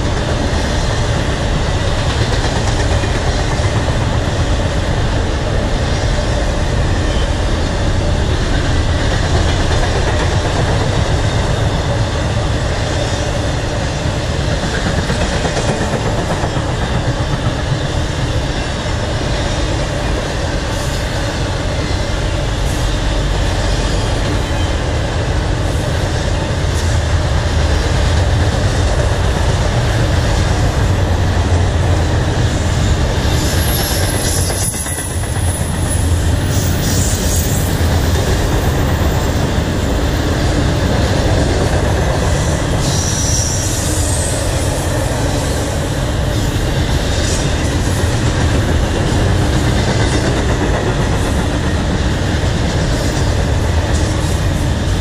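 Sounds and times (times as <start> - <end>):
freight train wheels clattering on rail: 0.0 - 55.0.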